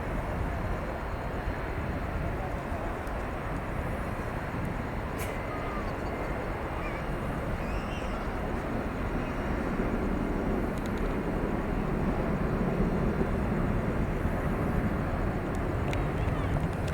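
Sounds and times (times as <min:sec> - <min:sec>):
jet engines at takeoff: 0:00.0 - 0:16.9.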